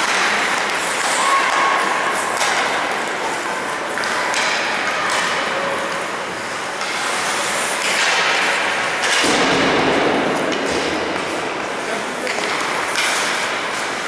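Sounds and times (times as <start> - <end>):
skate and stick scrapes and knocks: 0.0 - 3.3, 3.9 - 14.0
arena noise: 0.0 - 14.0.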